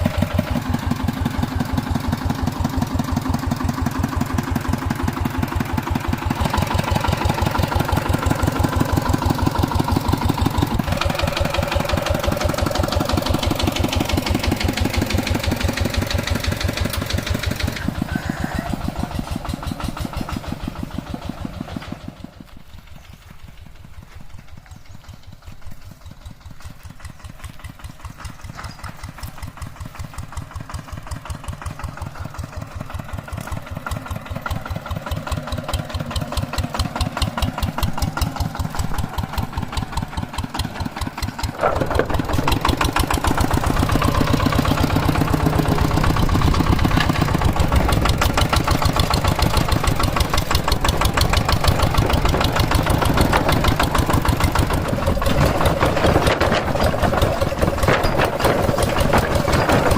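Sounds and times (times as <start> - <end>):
hand tractor engine running: 0.0 - 59.9.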